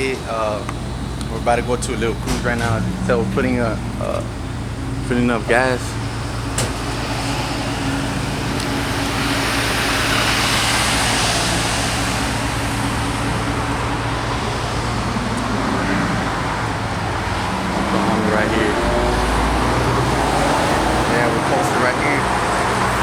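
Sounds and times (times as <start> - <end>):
low engine hum: 0.0 - 23.0
vehicle passing: 0.0 - 23.0.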